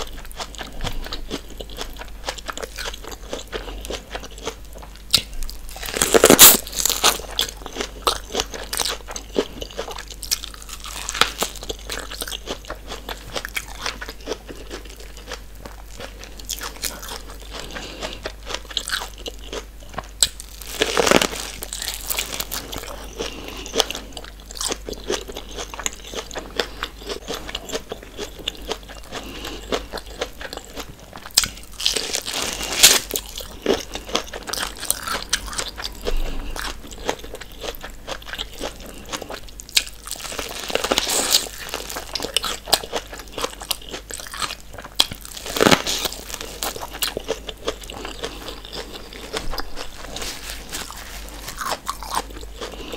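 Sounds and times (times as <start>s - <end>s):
corn kernels crunching: 0.0s - 52.9s
wet chewing: 0.0s - 52.9s.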